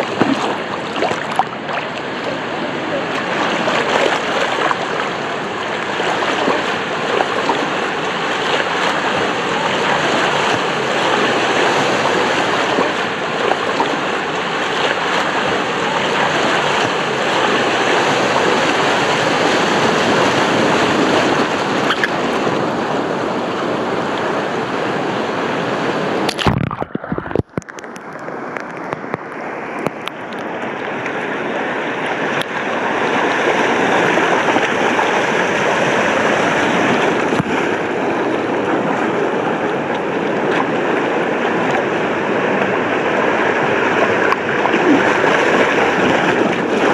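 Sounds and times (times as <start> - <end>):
water rushing and churning: 0.0 - 46.9.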